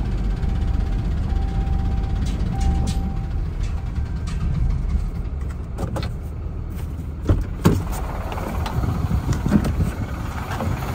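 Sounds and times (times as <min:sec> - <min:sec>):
truck engine rumbling: 0:00.0 - 0:10.9.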